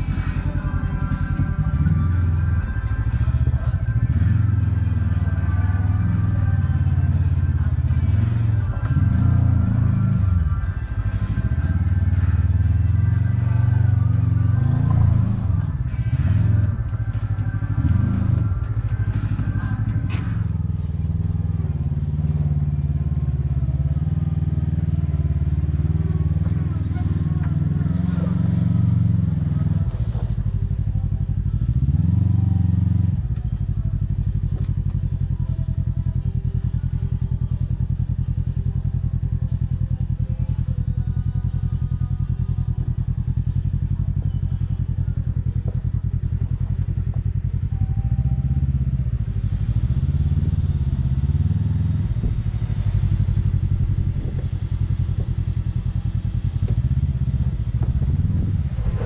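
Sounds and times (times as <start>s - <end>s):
engine running with revs rising: 0.0s - 59.0s.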